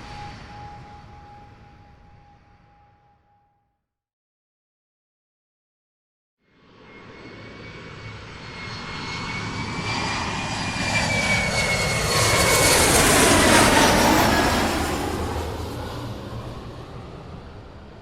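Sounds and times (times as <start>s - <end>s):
airplane flying past: 0.0s - 3.3s, 6.4s - 18.0s.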